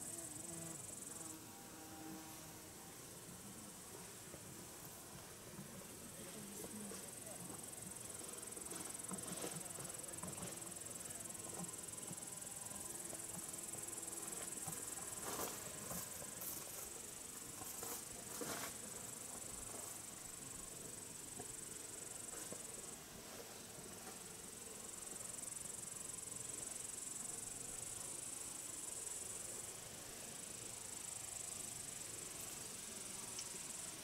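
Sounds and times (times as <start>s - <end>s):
insects trilling: 0.0s - 3.9s, 6.0s - 34.0s.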